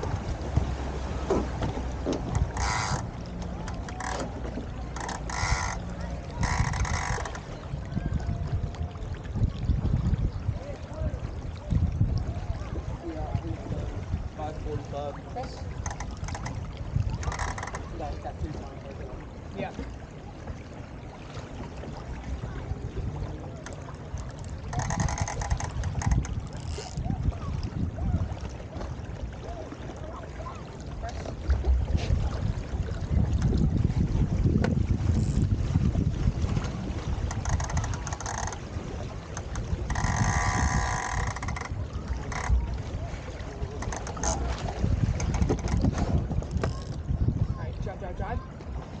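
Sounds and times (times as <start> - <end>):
wind buffeting microphone: 0.0 - 19.8, 21.8 - 49.0
water washing along hull: 0.0 - 49.0.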